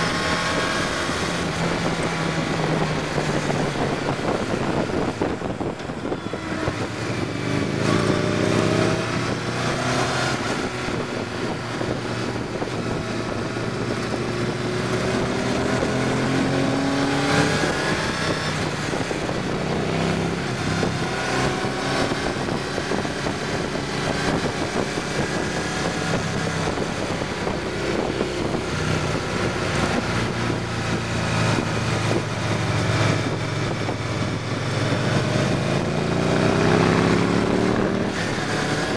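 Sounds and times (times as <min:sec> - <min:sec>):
motorcycle engine accelerating: 0:00.0 - 0:38.9
wind rushing: 0:00.0 - 0:38.9.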